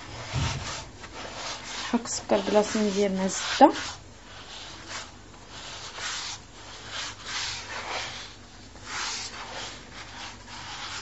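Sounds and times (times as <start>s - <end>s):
hand rubbing butter into sugar: 0.0s - 11.0s.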